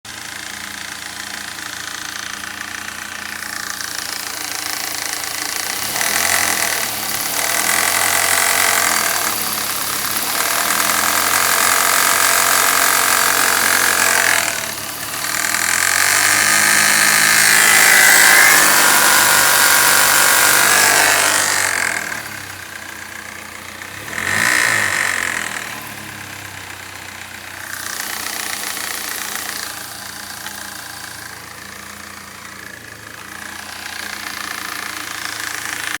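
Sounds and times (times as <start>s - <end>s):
car engine revving: 0.2s - 36.0s.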